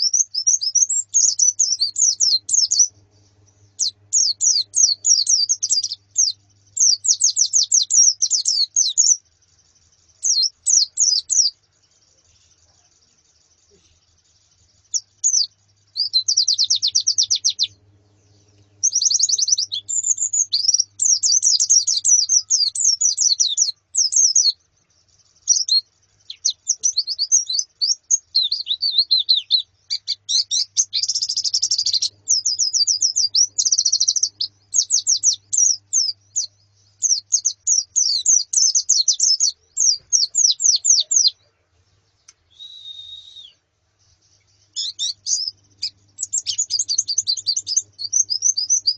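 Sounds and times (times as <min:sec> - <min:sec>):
birds chirping and twittering: 0:00.0 - 0:48.9.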